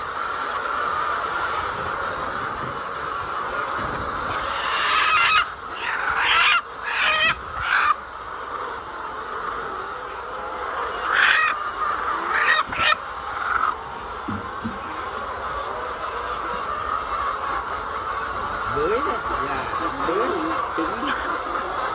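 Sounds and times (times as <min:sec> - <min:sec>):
chickens squawking: 0:00.0 - 0:21.9.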